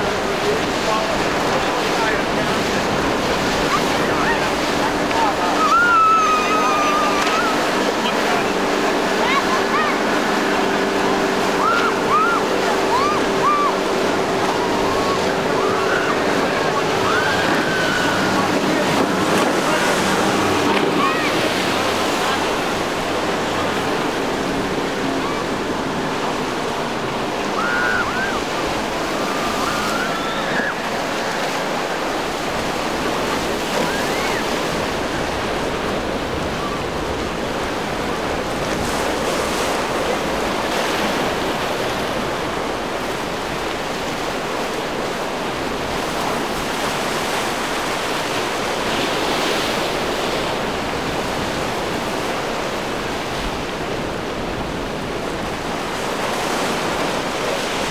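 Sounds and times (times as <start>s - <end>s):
surf and water washing: 0.0s - 57.9s.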